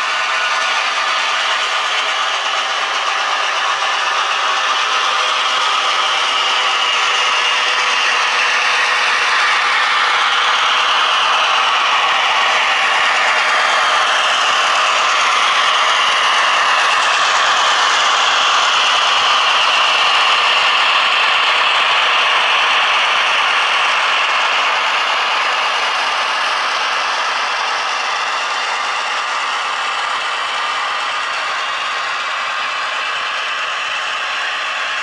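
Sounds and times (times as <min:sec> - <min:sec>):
model train whirring and clattering: 0:00.0 - 0:35.0.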